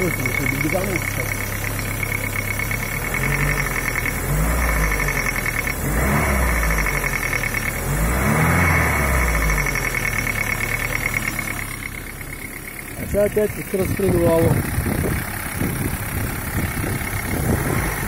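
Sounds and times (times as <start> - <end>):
car engine revving: 0.0 - 18.0
rapid engine knock: 0.0 - 18.0.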